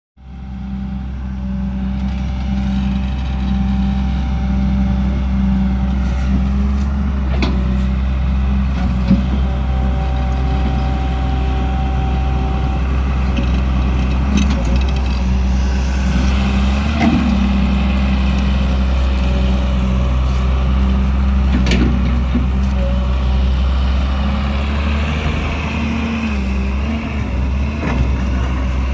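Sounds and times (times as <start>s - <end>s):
excavator diesel engine running: 0.2s - 28.9s.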